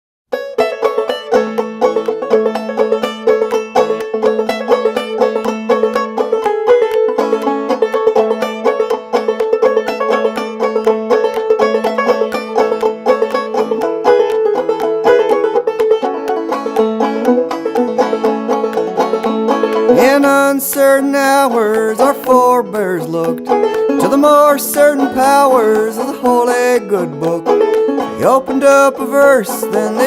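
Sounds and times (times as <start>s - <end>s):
bluegrass music: 0.3s - 30.0s
fast picked banjo: 0.3s - 30.0s.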